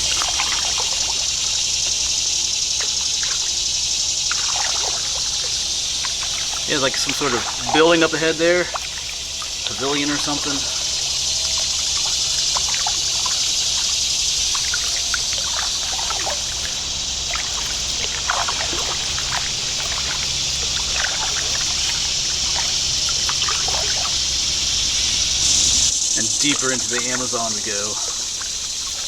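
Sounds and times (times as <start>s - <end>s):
low hum: 0.0s - 29.0s
paddle splashing in water: 0.0s - 29.0s
steady high hiss: 0.0s - 29.0s
water dripping off paddle: 0.0s - 29.0s.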